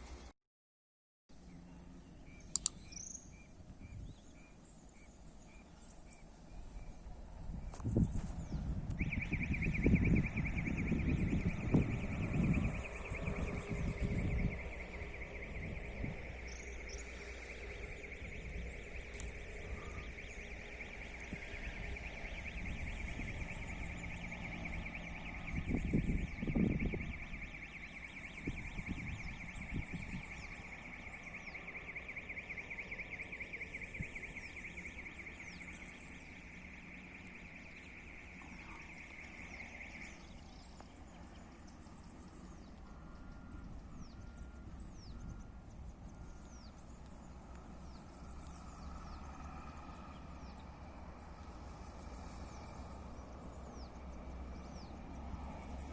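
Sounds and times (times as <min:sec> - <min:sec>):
rumble of passing train: 0:03.3 - 0:27.5, 0:28.4 - 0:55.9
level crossing alarm pulsing: 0:08.8 - 0:55.9.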